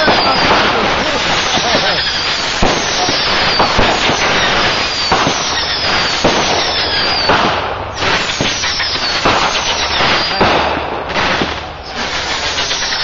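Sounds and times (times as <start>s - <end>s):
fireworks crackling and popping: 0.0s - 13.0s
loud firework burst: 0.0s - 13.0s
whistling fireworks: 0.0s - 13.0s.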